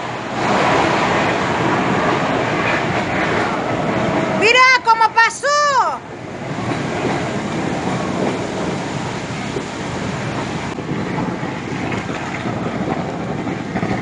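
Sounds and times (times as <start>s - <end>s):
fire rushing and crackling: 0.0s - 14.0s.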